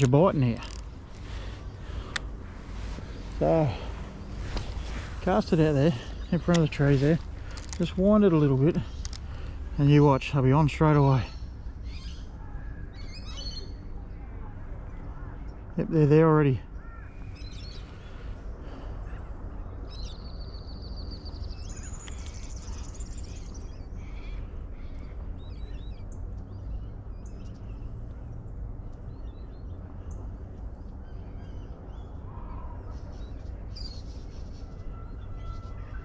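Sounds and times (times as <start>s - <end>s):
low background rumble: 0.0s - 36.0s.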